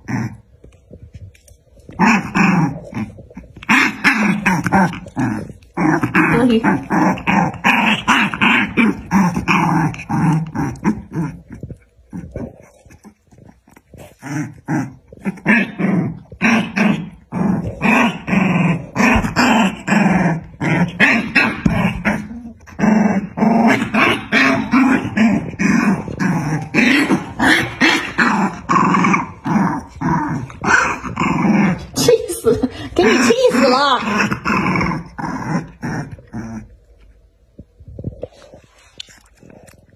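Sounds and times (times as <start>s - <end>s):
puppies growling and yipping: 0.0s - 37.3s.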